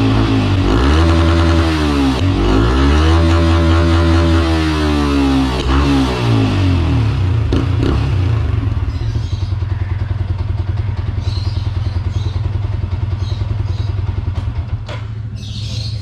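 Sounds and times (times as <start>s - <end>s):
motorcycle engine revving and idling: 0.0s - 16.0s.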